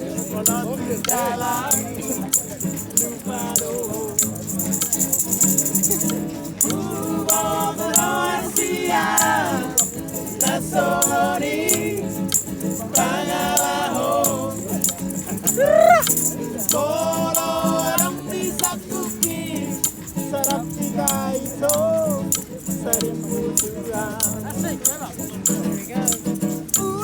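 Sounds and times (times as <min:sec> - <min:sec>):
person singing: 0:00.0 - 0:04.4, 0:06.6 - 0:24.6, 0:26.1 - 0:27.0
shaker-like percussion beat: 0:00.0 - 0:27.0.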